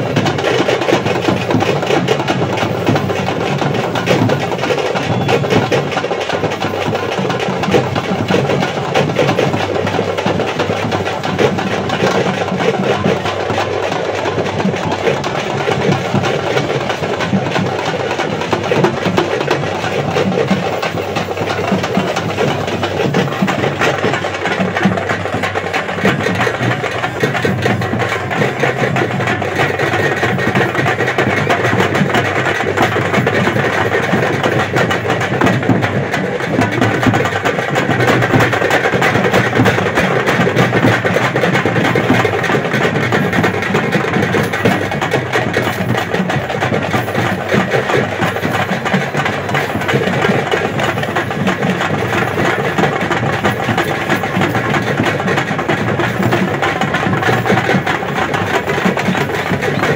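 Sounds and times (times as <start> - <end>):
drum band playing fast beat: 0.0 - 59.9.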